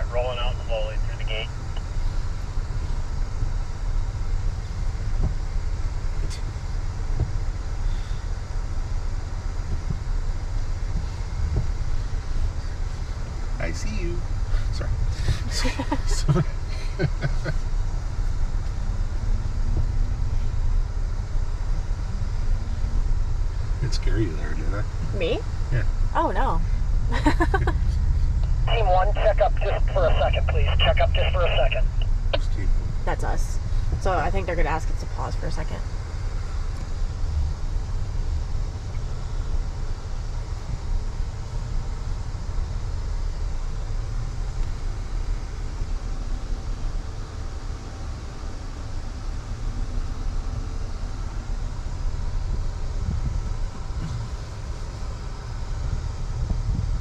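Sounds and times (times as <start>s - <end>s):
engine hum: 0.0s - 57.0s
low cab rumble: 0.0s - 57.0s.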